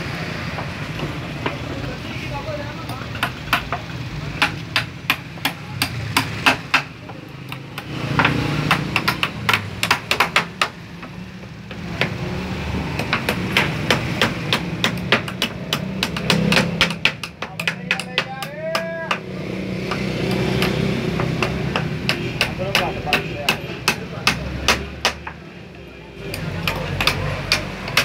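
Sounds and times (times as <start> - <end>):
hammer striking nails into wood: 3.1 - 12.2, 12.9 - 25.4, 26.3 - 28.0.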